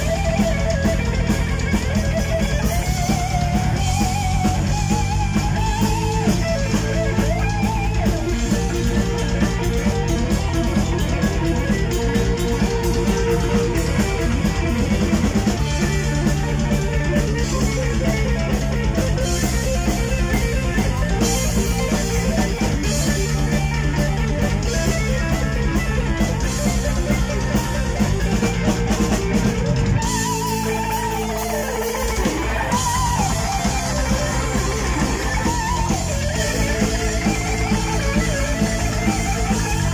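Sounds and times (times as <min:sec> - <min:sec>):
heavy metal band playing live: 0:00.0 - 0:39.9
lead guitar bending notes: 0:00.0 - 0:39.9.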